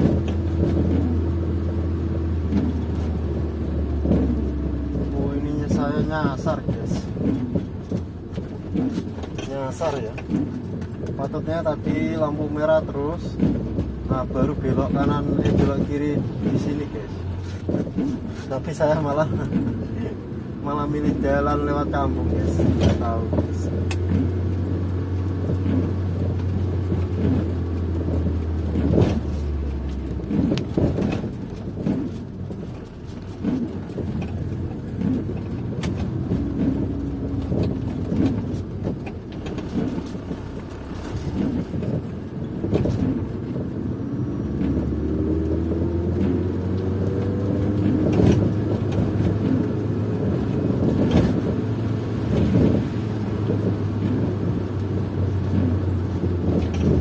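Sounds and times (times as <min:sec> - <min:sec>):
car engine drone: 0:00.0 - 0:57.0
knocks and thuds from road: 0:00.0 - 0:57.0
road noise: 0:00.0 - 0:57.0.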